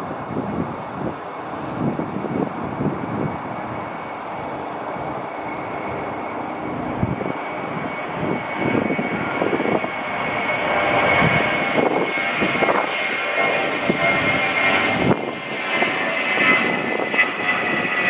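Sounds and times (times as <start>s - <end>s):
airliner engines passing: 0.0s - 18.0s.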